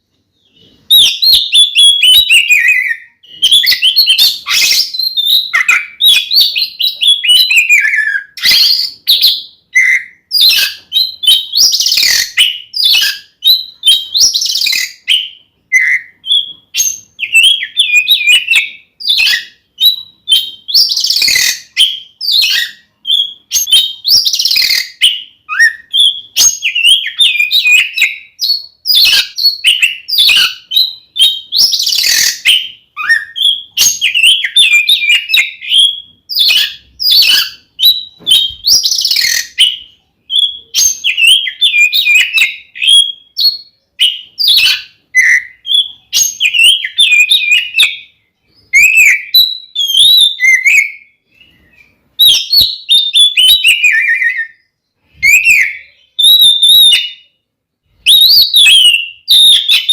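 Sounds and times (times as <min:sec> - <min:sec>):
songbird singing whistled phrases: 0:00.3 - 0:59.9.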